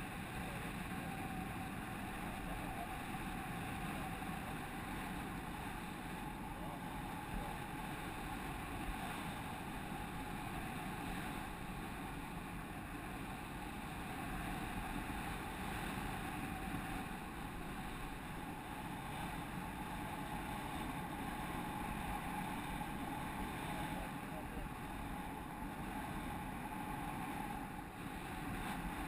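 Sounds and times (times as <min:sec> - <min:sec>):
faint steady tone: 0:00.0 - 0:29.0.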